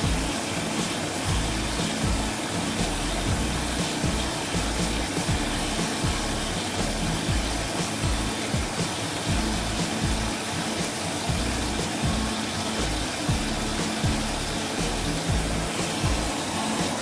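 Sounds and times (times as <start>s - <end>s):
background music: 0.0s - 17.0s
steady rushing noise: 0.0s - 17.0s.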